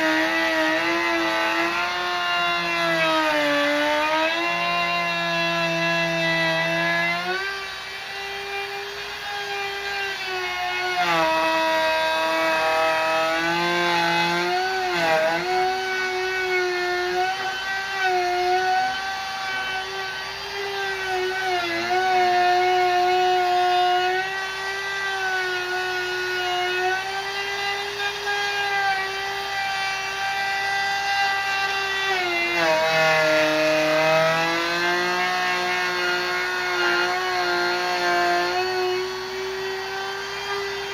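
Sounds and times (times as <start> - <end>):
wood router cutting wood: 0.0 - 40.9.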